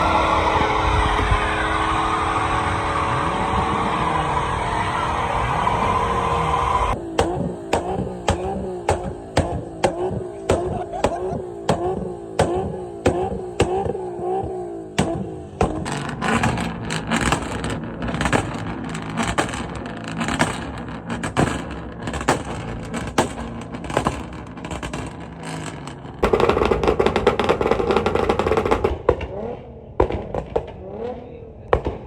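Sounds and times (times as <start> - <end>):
car engine running: 0.0 - 31.0
exhaust pops and bangs: 0.0 - 32.0.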